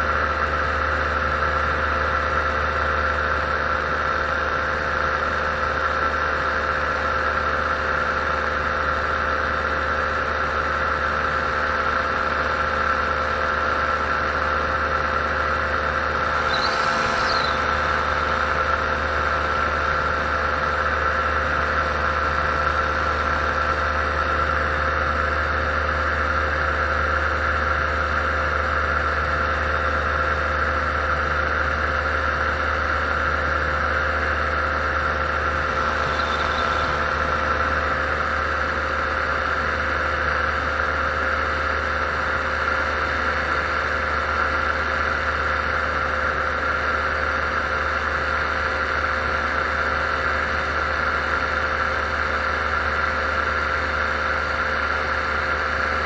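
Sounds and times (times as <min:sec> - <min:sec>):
paramotor engine drone: 0:00.0 - 0:56.0.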